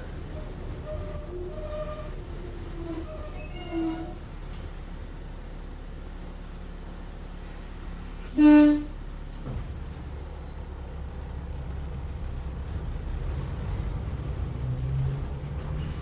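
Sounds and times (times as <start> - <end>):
railcar motors and wheels rumbling: 0.0 - 16.0.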